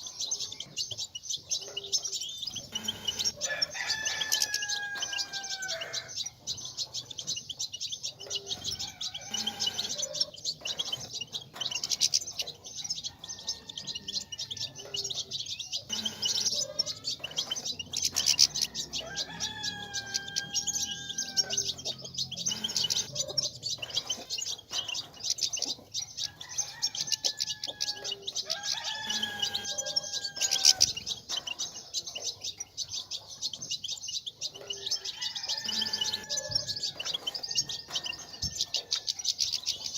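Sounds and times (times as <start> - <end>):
finches twittering chorus: 0.0 - 39.9.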